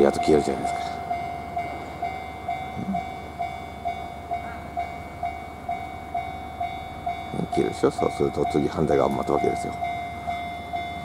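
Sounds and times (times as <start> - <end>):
level crossing warning bell: 0.0 - 11.0.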